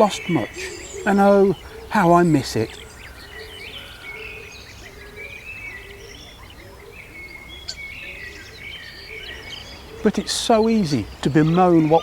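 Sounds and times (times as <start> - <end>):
wild birds chirping and trilling: 0.0 - 12.0.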